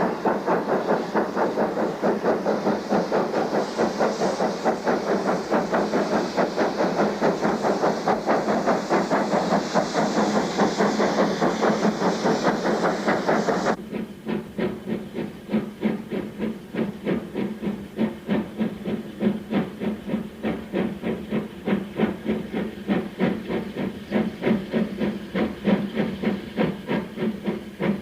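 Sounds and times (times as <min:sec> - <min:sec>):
steam hissing: 0:00.0 - 0:28.0
steam locomotive exhaust chuffs: 0:00.0 - 0:28.0.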